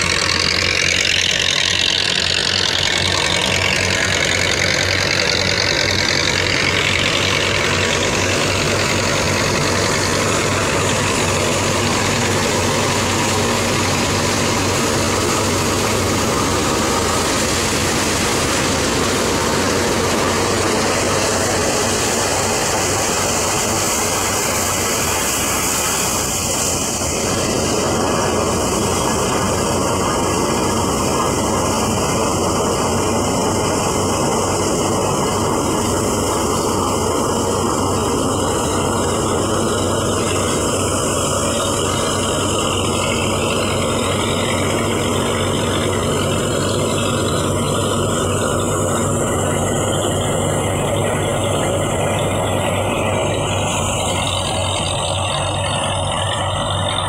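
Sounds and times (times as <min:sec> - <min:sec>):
chaff rushing out: 0:00.0 - 0:57.0
thresher drum whirring: 0:00.0 - 0:57.0
tractor diesel engine running: 0:00.0 - 0:57.0.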